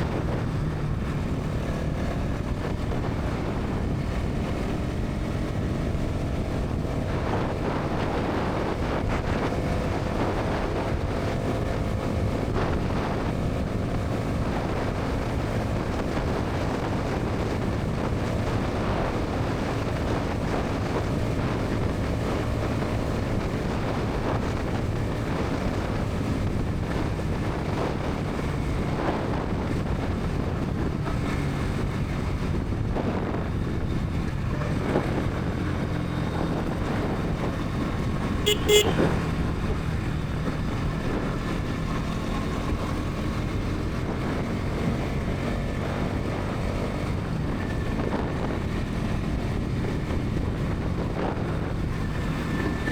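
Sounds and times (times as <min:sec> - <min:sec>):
motorcycle engine at highway speed: 0:00.0 - 0:52.9
wind rush on microphone: 0:00.0 - 0:52.9.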